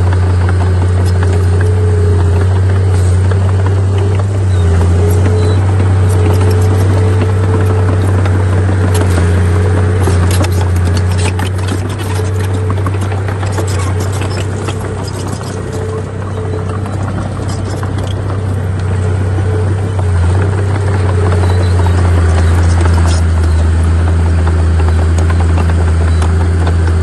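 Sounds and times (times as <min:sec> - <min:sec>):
clanks and rattles: 0:00.0 - 0:27.0
heavy diesel engine running: 0:00.0 - 0:27.0.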